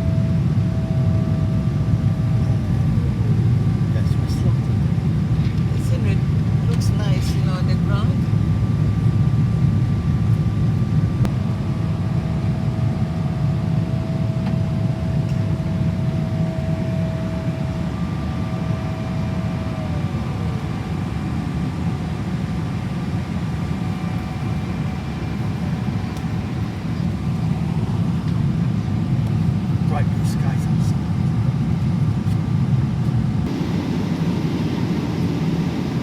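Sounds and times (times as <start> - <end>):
jet engine and airflow rumble: 0.0 - 36.0.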